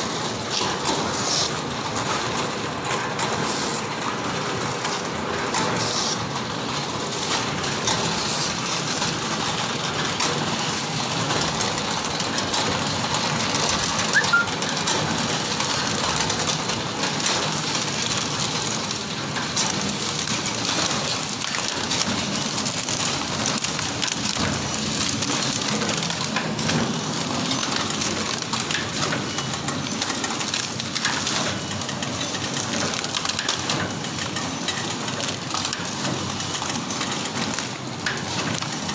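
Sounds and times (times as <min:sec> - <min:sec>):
packing machine whirr and rattle: 0:00.0 - 0:38.9.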